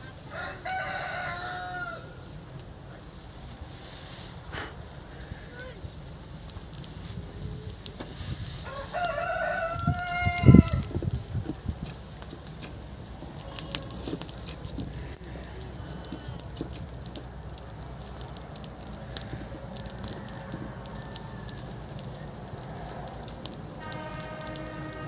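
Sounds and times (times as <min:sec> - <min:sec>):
fire crackling and popping: 0:00.0 - 0:25.0
low rush of flame: 0:00.2 - 0:25.0.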